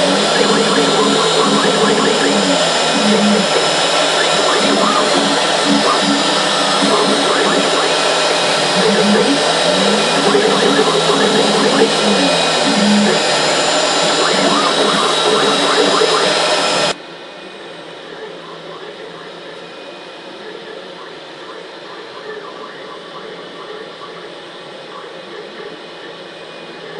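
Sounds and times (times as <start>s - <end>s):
cnc router cutting foam: 0.0s - 21.8s
quiet machine hum: 0.0s - 26.9s.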